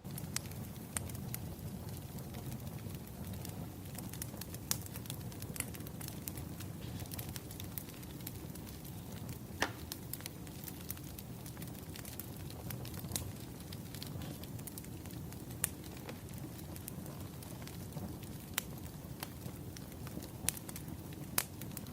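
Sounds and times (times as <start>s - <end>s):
fire low rumble: 0.0s - 21.9s
firewood crackling and popping: 0.0s - 21.9s.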